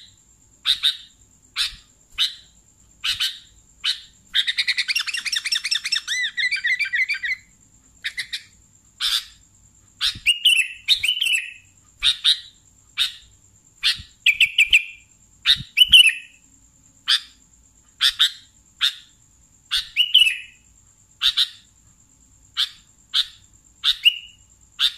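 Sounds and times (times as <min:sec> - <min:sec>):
bulbul singing: 0:00.0 - 0:09.4, 0:10.0 - 0:16.4, 0:18.0 - 0:20.6, 0:22.6 - 0:24.9.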